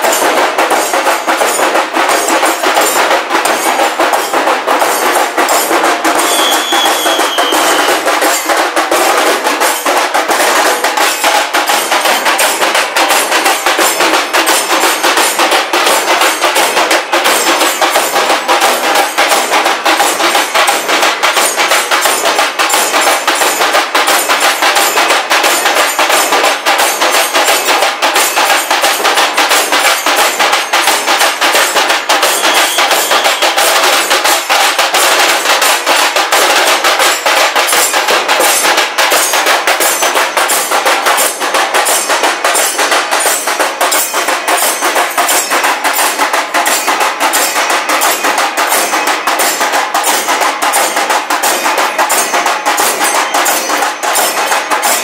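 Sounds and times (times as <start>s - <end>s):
drum band beating drums: 0.0s - 55.0s.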